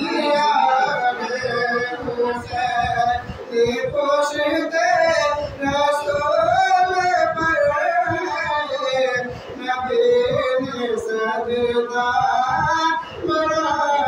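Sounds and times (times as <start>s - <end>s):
man chanting into a microphone: 0.0s - 14.0s.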